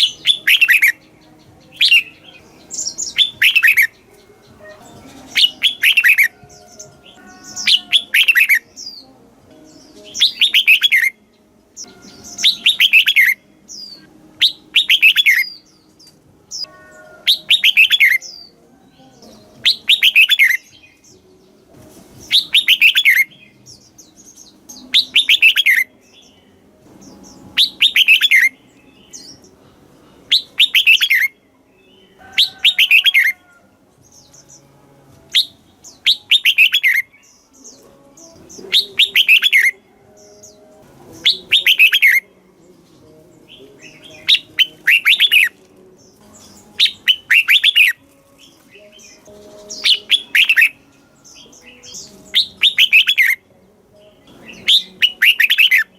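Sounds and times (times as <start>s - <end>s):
bird singing whistled notes: 0.0s - 9.1s, 9.7s - 21.4s, 22.2s - 29.5s, 30.3s - 34.6s, 35.3s - 42.4s, 43.4s - 55.9s.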